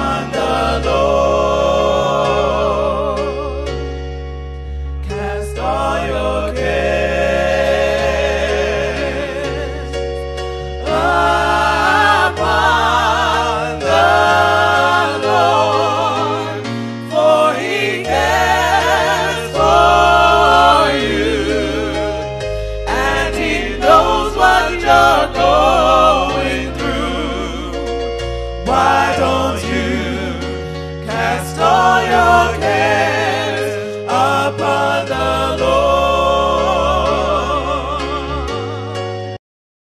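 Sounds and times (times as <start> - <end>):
low bass notes: 0.0 - 39.3
gospel singing voices: 0.0 - 39.4.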